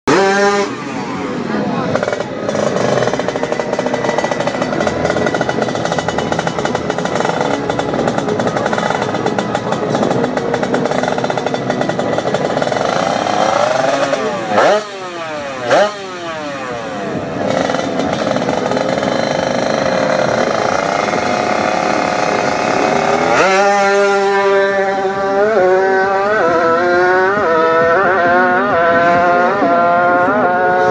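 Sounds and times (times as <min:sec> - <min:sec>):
motorcycle engine revving hard: 0:00.1 - 0:30.9.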